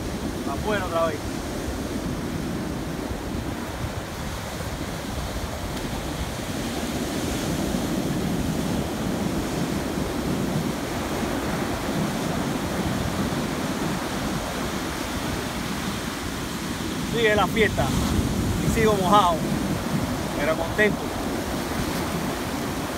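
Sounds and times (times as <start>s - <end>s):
ocean surf breaking: 0.0s - 22.9s.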